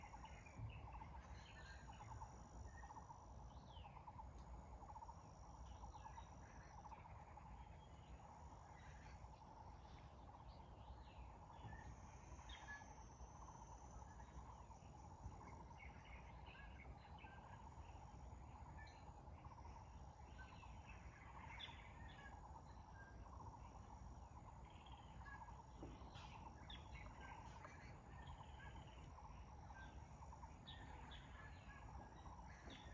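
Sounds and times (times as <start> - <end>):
low background hiss and rumble: 0.0 - 32.9.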